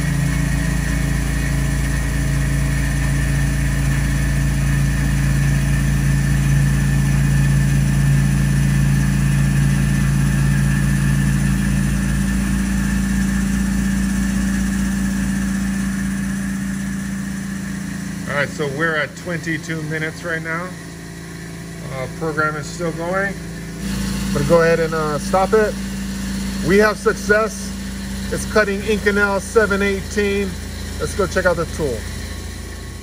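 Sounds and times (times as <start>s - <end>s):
milling machine hum: 0.0s - 33.0s.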